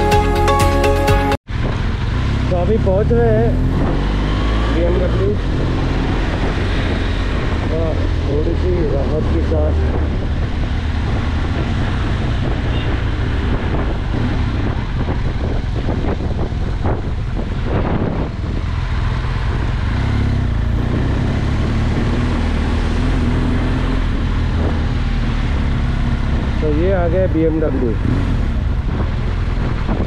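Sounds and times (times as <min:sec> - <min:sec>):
wind rushing over microphone: 0:01.5 - 0:30.0.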